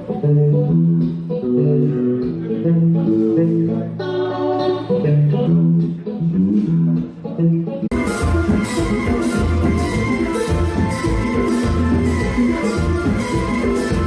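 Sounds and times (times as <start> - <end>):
bass guitar notes: 0.0 - 14.0
guitar melody: 0.0 - 14.0.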